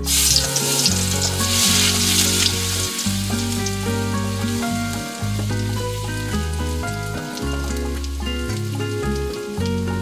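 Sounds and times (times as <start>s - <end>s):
garlic sizzling in hot oil: 0.0s - 10.0s.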